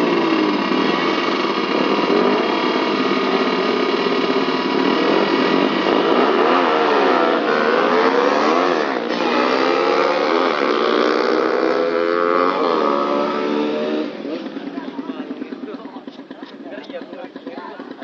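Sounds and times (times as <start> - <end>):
motorcycle engines accelerating: 0.0 - 18.0.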